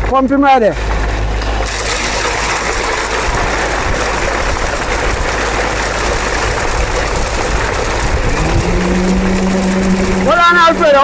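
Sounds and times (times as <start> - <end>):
concrete pump engine running: 0.0 - 11.0.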